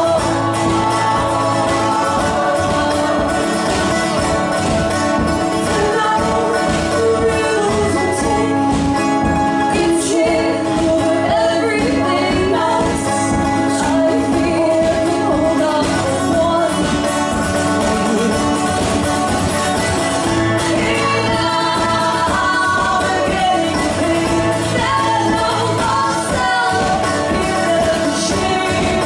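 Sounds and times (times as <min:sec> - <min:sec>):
woman singing: 0:00.0 - 0:18.4, 0:20.3 - 0:29.0
mandolin: 0:00.0 - 0:29.0
strummed acoustic guitar: 0:00.0 - 0:29.0.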